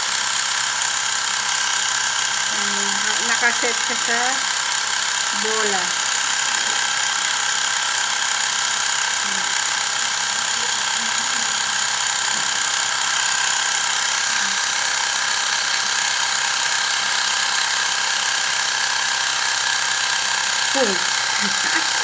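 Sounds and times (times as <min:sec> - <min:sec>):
air compressor motor whine: 0:00.0 - 0:22.0.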